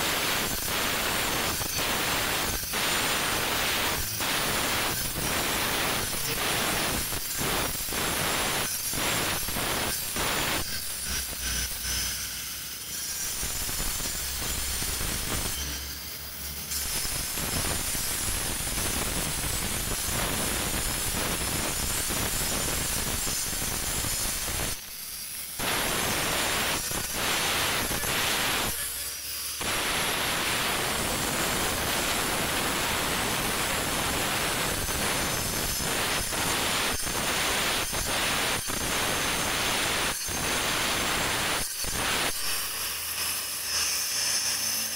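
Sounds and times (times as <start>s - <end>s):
angle grinder grinding stone: 0.1s - 44.9s.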